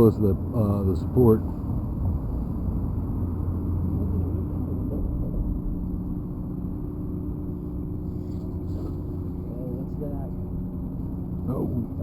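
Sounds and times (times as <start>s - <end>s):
constant droning hum: 0.0s - 12.0s
low rumble of road traffic: 0.0s - 12.0s.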